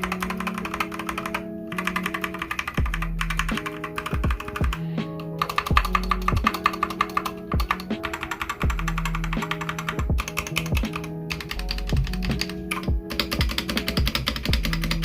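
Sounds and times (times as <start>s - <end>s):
mechanical keyboard typing: 0.0s - 15.0s
music with deep bass beat: 2.8s - 15.0s.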